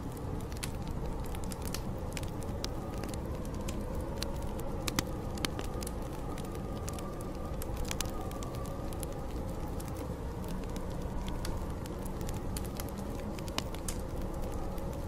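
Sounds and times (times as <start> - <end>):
storm wind howling: 0.0 - 15.0
wood fire crackling and popping: 0.0 - 15.0.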